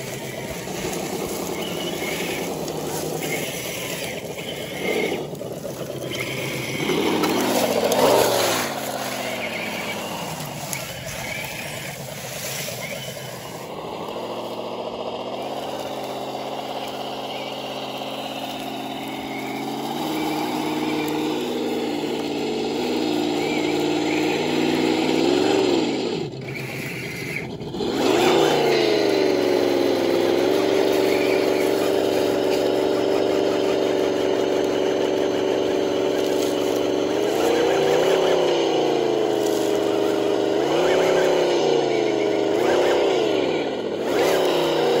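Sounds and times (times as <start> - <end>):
electric motor whining: 0.0 - 45.0.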